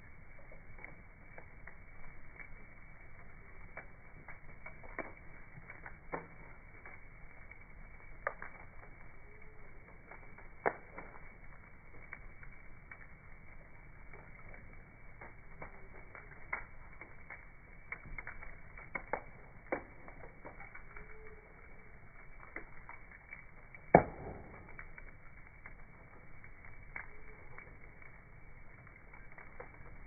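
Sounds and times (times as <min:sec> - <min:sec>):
slowed bonfire crackling pops: 0:00.0 - 0:30.0.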